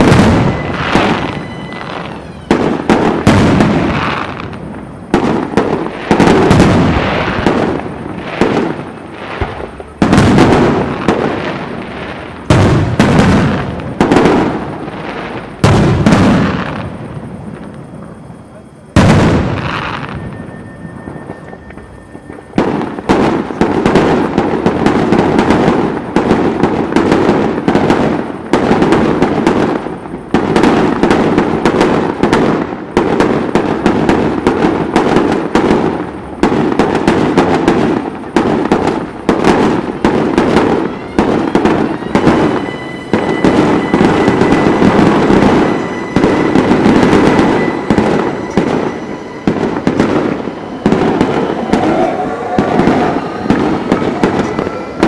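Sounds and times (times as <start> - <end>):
thin steady whistling tone: 0.0 - 12.5, 16.5 - 55.0
fireworks bangs and crackling: 0.0 - 55.0.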